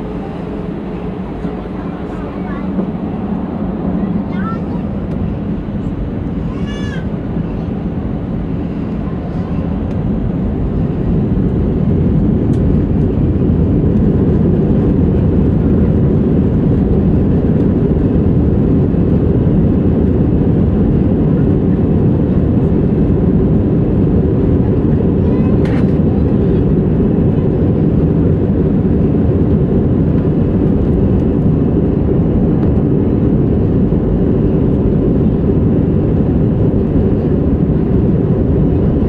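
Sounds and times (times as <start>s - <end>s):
airliner engine rumble in cabin: 0.0s - 39.0s.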